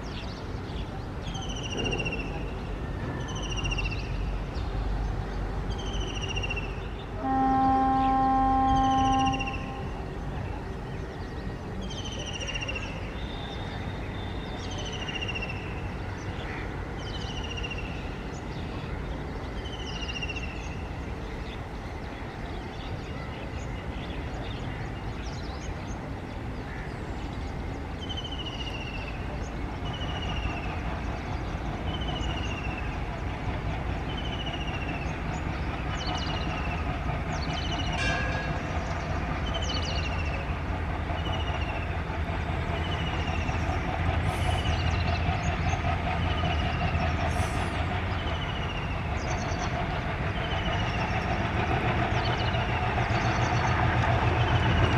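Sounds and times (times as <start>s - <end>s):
diesel locomotive engine rumble: 0.0s - 54.9s.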